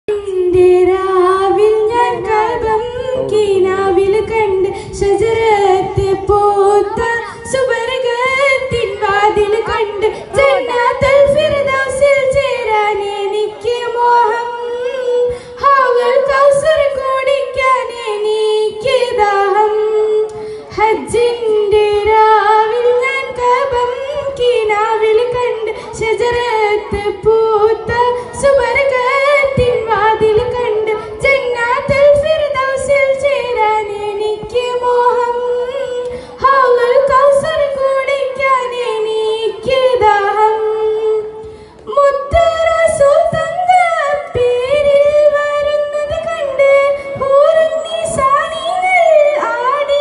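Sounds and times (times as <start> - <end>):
girl singing: 0.1 - 50.0.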